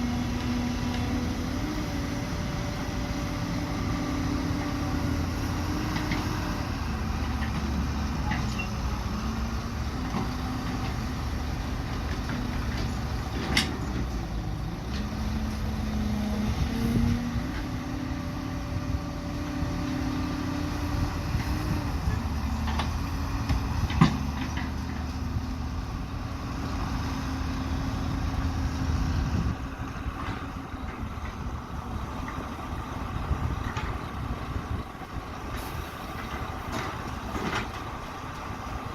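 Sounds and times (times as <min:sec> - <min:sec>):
diesel excavator engine running: 0:00.0 - 0:38.9.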